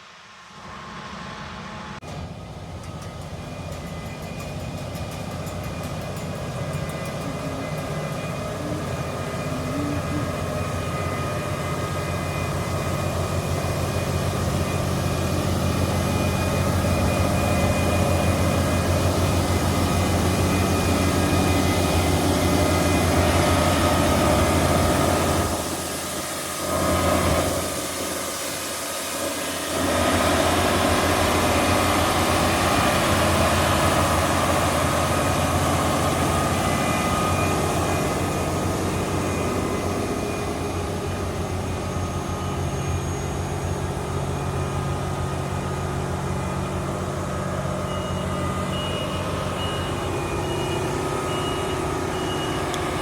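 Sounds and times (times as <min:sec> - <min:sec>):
harvester engine humming: 0:00.4 - 0:53.0.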